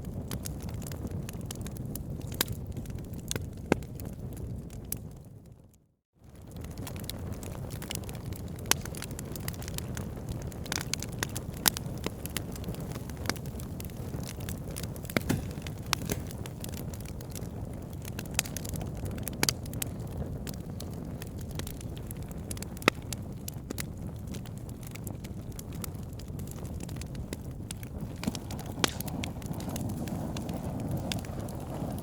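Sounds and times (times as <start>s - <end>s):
wood fire crackling and popping: 0.0s - 5.3s, 6.3s - 32.0s.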